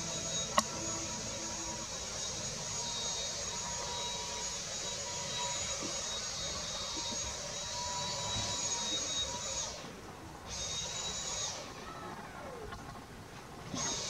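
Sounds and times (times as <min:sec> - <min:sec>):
high-pitched electronic whine: 0:00.0 - 0:13.0.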